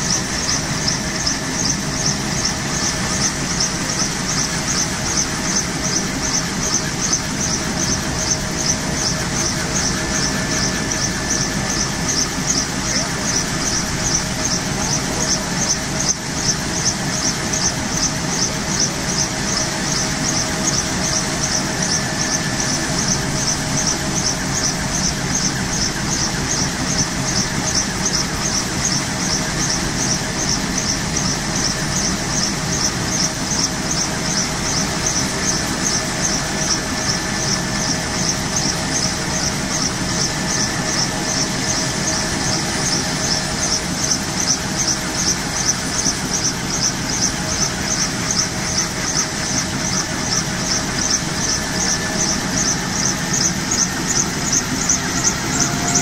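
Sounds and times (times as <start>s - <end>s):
helicopter rotors rumbling: 0.0s - 56.0s
pulsing high hiss: 0.0s - 56.0s
turboshaft engine whining: 0.0s - 56.0s.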